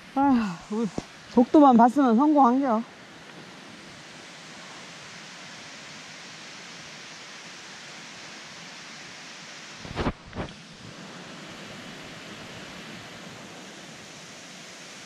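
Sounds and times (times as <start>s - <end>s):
steady outdoor noise: 0.0s - 15.0s.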